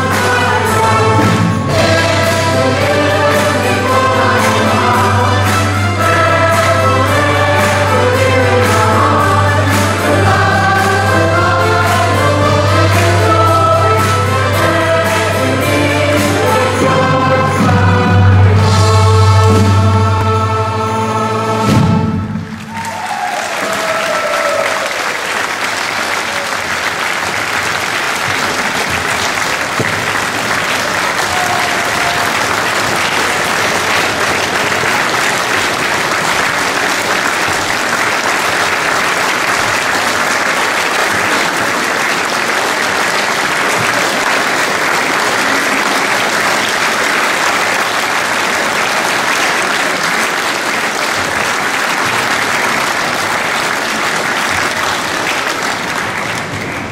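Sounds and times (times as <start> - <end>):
large audience applauding: 0.0 - 16.6, 22.4 - 56.9.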